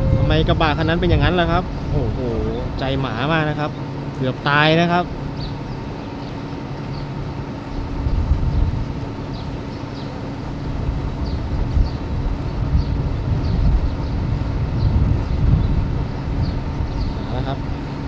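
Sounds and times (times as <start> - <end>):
diesel locomotive rumble: 0.0 - 18.0.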